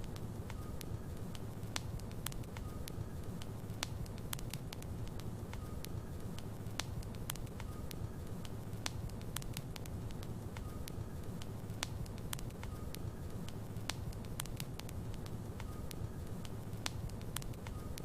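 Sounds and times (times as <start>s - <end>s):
fire rumbling: 0.0s - 18.0s
wood crackling and popping: 0.0s - 18.0s.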